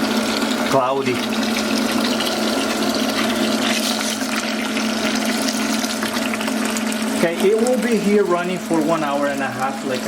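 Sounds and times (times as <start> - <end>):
submersible pump humming: 0.0 - 10.0
water running through hoses: 0.0 - 10.0.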